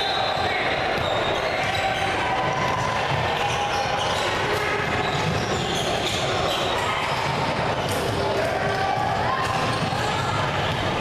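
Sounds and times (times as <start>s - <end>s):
sneakers squeaking: 0.0s - 11.0s.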